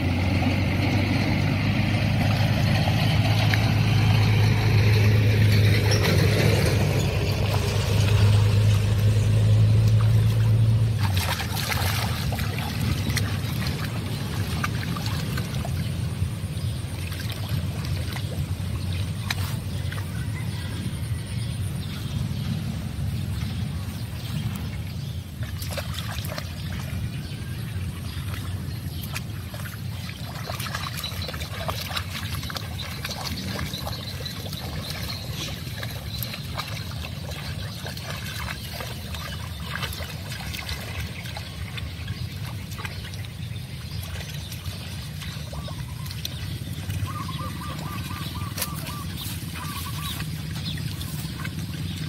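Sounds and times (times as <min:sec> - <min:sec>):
dogs splashing in water: 0:00.0 - 0:52.0.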